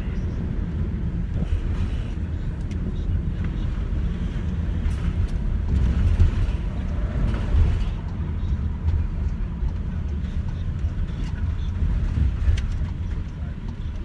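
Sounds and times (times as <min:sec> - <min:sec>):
van engine and road noise: 0:00.0 - 0:14.0.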